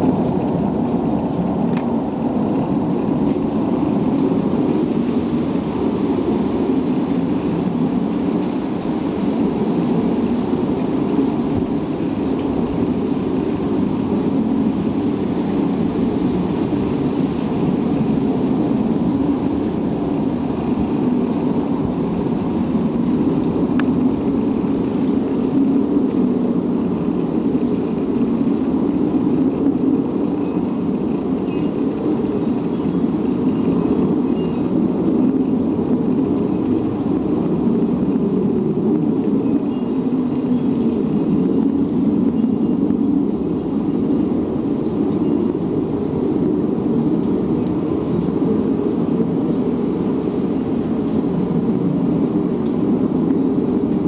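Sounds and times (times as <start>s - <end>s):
low rumbling drone from sky: 0.0s - 54.0s.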